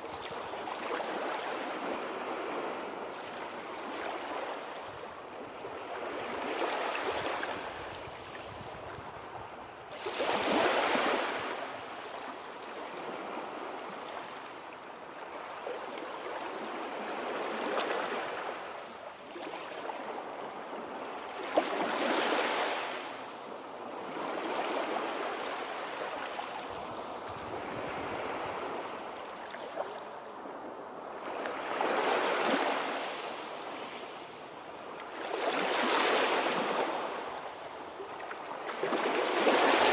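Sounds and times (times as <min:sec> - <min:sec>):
sea waves breaking on shore: 0:00.0 - 0:09.3, 0:09.9 - 0:14.6, 0:15.2 - 0:39.9.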